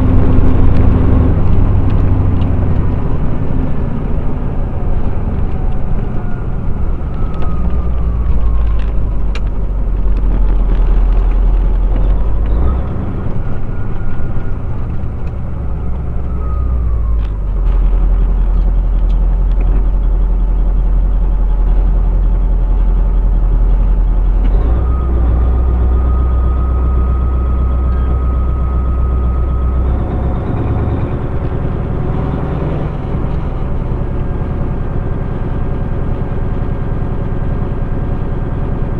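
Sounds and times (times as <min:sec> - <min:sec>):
road noise: 0:00.0 - 0:38.9
truck diesel engine revving: 0:00.0 - 0:38.9.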